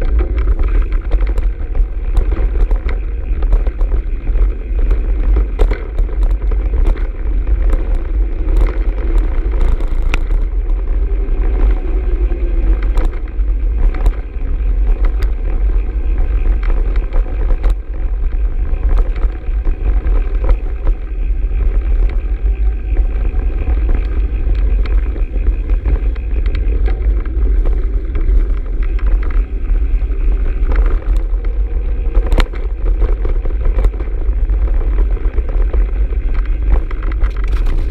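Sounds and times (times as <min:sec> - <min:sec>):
bike clicking and rattling: 0:00.0 - 0:37.9
wind and tyre rumble: 0:00.0 - 0:37.9.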